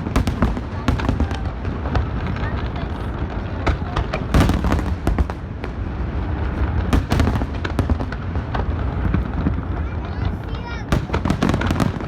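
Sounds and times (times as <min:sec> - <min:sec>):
fireworks cracks and booms: 0:00.0 - 0:12.0.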